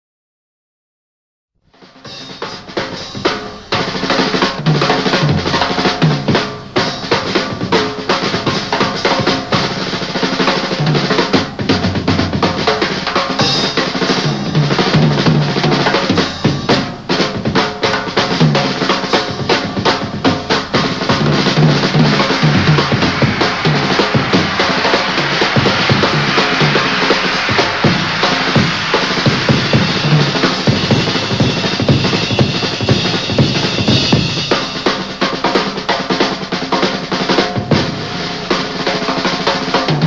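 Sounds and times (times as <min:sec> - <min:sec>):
jazz drum solo: 0:01.7 - 0:40.0.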